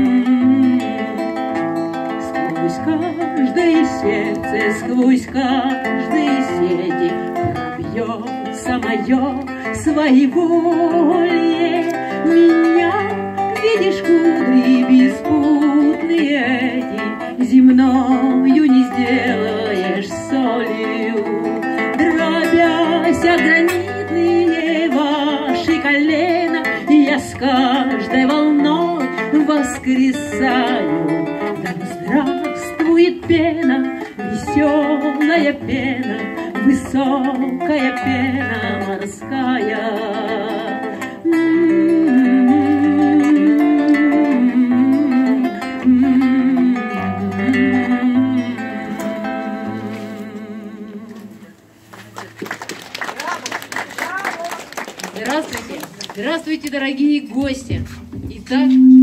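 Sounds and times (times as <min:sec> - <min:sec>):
person singing: 0:00.0 - 0:51.5
acoustic guitar playing: 0:00.0 - 0:59.0.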